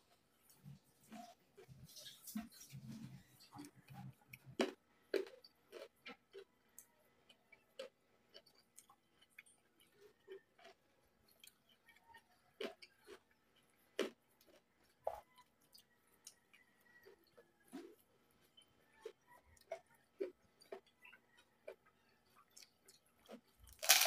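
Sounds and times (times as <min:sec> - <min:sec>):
crisp chewing crunches: 0:01.1 - 0:24.0.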